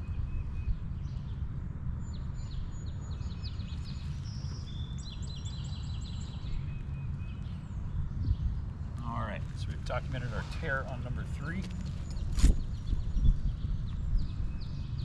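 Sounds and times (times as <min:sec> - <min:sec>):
wind rumble on microphone: 0:00.0 - 0:15.0
songbird chirping and trilling: 0:02.0 - 0:15.0.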